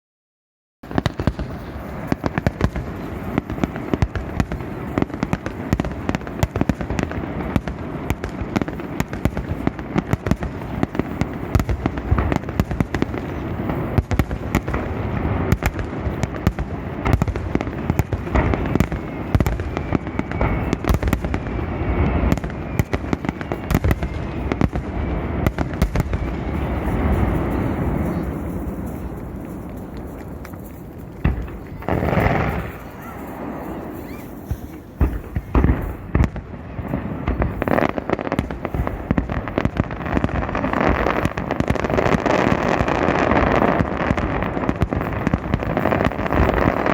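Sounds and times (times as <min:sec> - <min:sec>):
fireworks bangs and crackles: 0:00.8 - 0:46.9.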